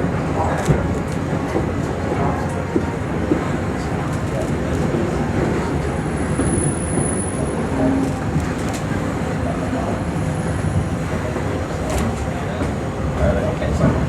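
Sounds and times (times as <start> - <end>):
train car rumbling and rattling on track: 0.0 - 14.0.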